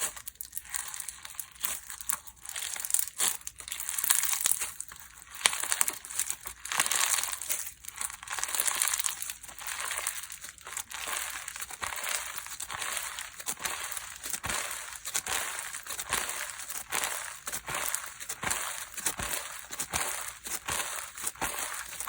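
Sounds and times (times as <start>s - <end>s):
hands squishing slime: 0.0s - 22.0s.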